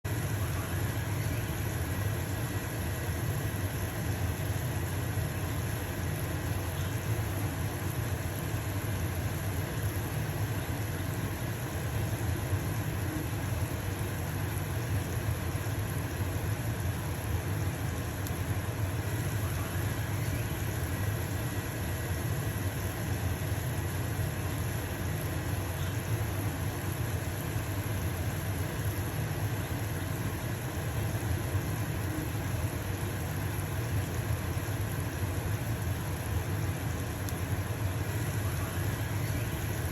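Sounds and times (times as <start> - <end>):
range hood fan humming: 0.0 - 39.9
pancake sizzling in frying pan: 0.1 - 39.9.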